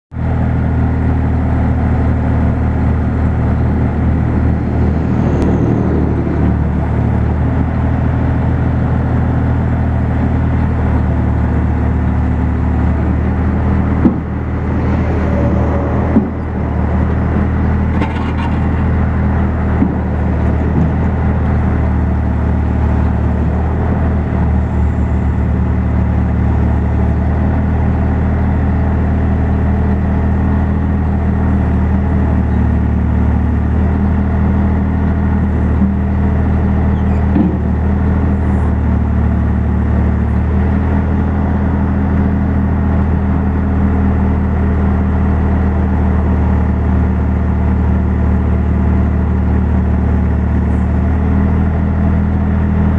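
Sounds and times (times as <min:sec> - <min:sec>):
diesel engine running steadily: 0:00.1 - 0:52.9.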